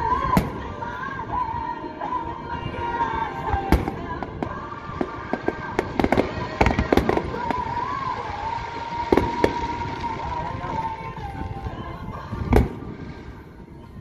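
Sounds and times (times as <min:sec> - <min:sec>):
fireworks bangs and crackles: 0:00.0 - 0:14.0
music: 0:00.0 - 0:14.0.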